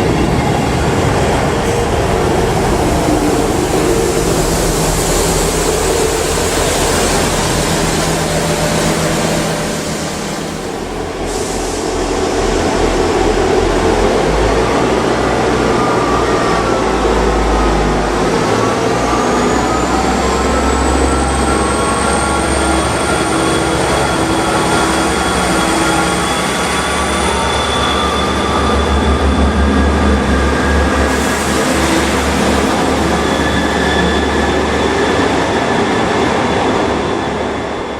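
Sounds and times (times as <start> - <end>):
high-pitched whine: 0.0 - 37.9
train rumbling on rails: 0.0 - 37.9.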